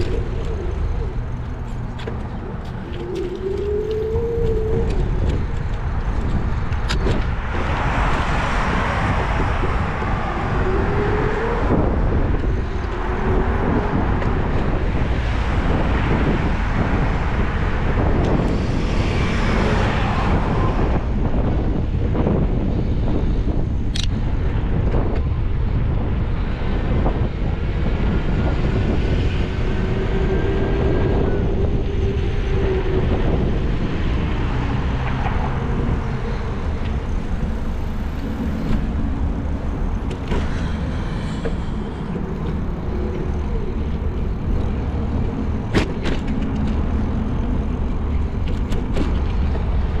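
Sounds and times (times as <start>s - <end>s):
car driving on city street: 0.0s - 50.0s
passing traffic: 0.0s - 50.0s.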